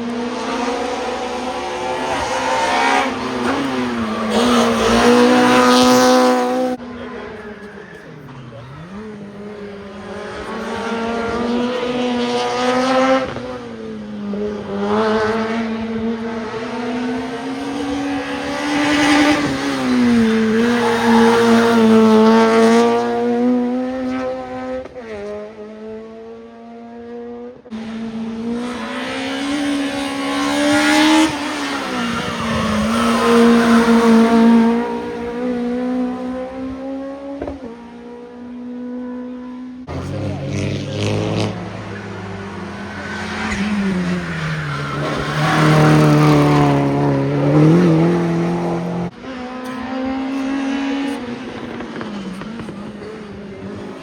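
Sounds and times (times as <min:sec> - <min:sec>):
race car engines at full throttle: 0:00.0 - 0:54.0.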